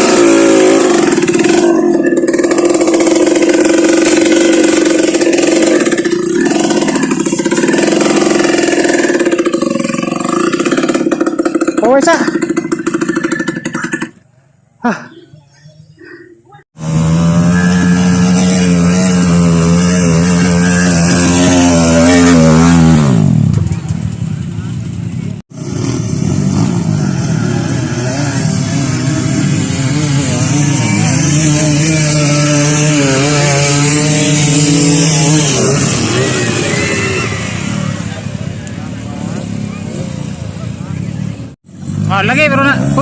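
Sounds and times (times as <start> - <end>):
motorbike engine at high revs: 0.0 - 14.2, 16.7 - 43.0.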